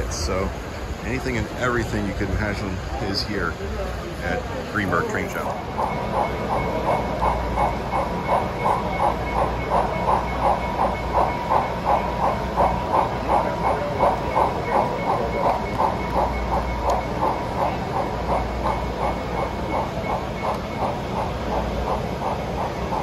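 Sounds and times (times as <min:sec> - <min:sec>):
model steam locomotive chuffing: 0:00.0 - 0:23.0.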